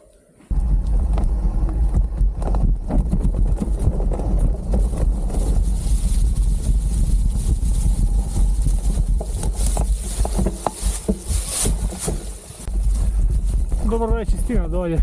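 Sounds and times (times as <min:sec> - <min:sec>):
bike rolling over dry leaves: 0:00.5 - 0:14.6
bike rattling and knocking: 0:00.5 - 0:15.0
wind rumbling on microphone: 0:00.5 - 0:15.0.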